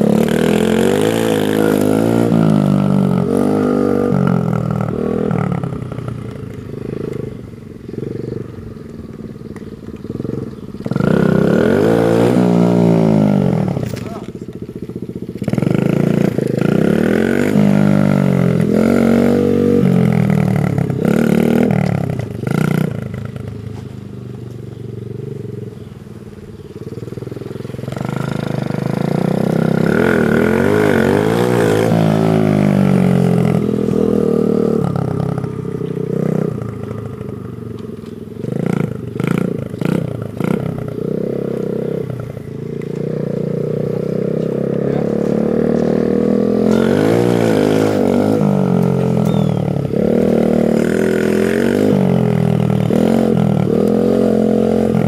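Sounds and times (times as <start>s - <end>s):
minibike engine revving: 0.0s - 55.0s.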